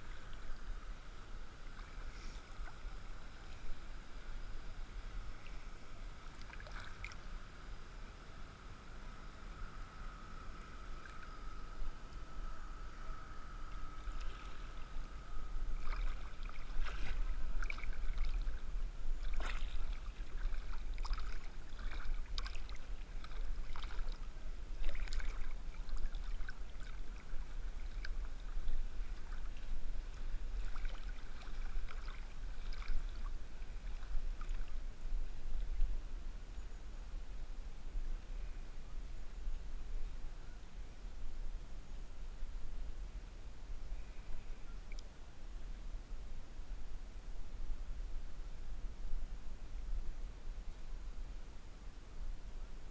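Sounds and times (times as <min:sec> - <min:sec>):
faint steady whine: 0:00.0 - 0:52.9.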